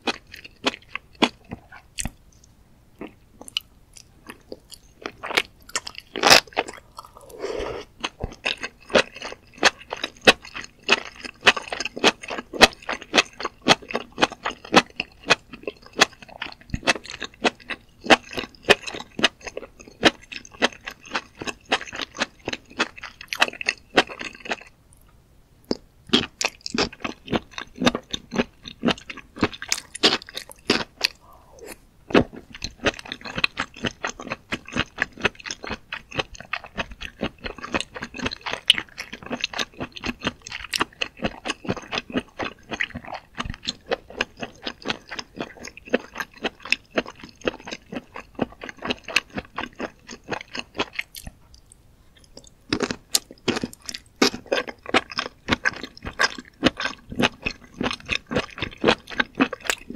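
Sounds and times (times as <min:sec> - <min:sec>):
crisp chewing crunches: 0:00.0 - 0:25.1, 0:25.7 - 0:59.9.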